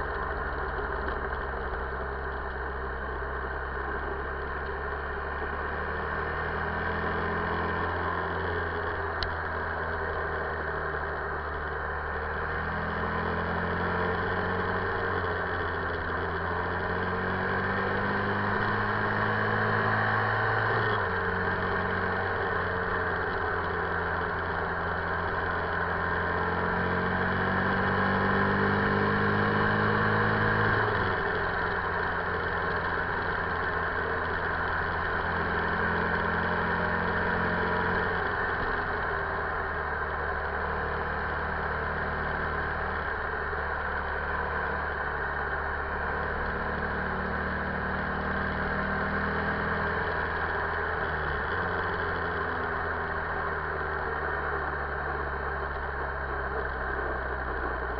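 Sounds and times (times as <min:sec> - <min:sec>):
motorcycle engine: 0:00.0 - 0:57.9.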